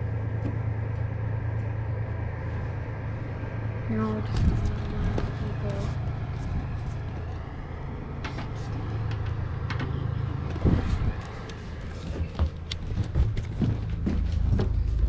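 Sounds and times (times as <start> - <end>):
space heater humming: 0.0 - 15.0.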